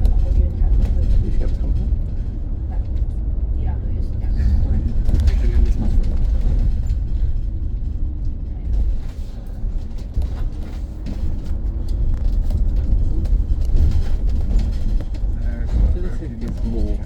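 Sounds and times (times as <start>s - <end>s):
bus road and tyre rumble: 0.0s - 17.0s.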